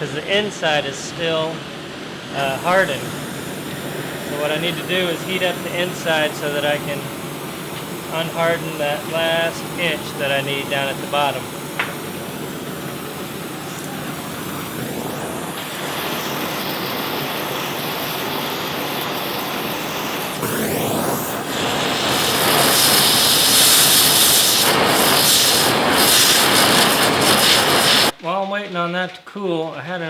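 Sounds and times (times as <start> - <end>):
gas torch burning: 0.0 - 28.2.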